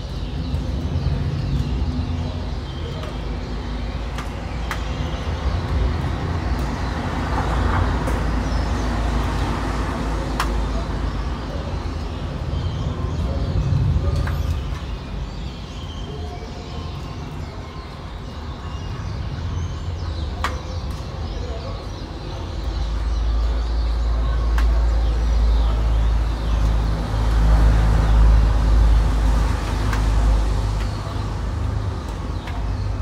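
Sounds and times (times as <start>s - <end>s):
low traffic rumble: 0.0s - 33.0s.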